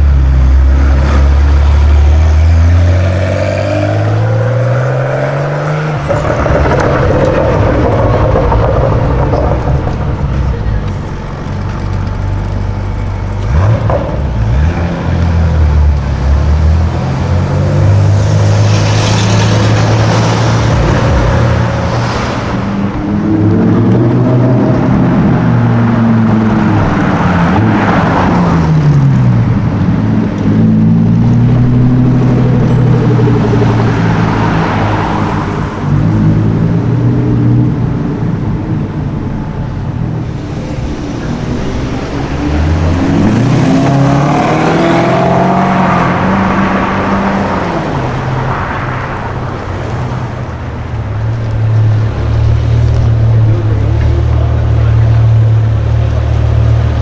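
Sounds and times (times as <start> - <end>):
sports car engines revving: 0.0 - 57.0.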